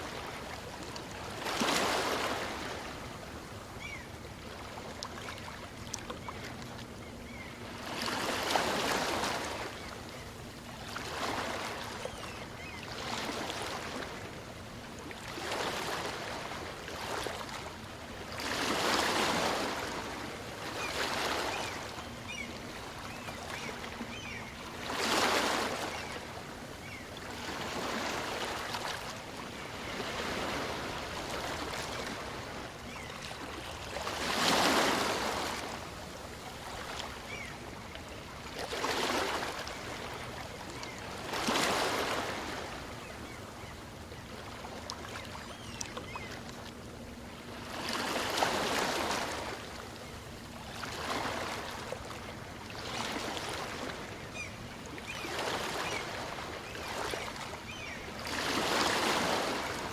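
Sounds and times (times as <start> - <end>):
gentle waves on a beach: 0.0 - 59.9.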